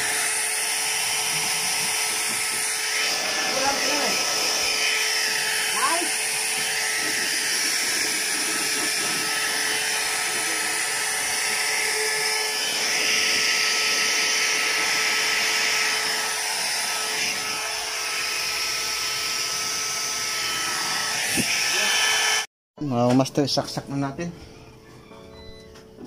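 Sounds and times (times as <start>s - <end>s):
electric air blower running: 0.0s - 22.5s.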